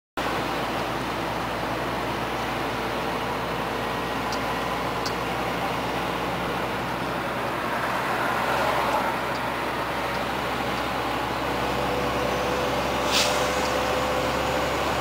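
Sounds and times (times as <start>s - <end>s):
truck diesel engine running: 0.2s - 15.0s
tyre and road noise: 0.2s - 15.0s.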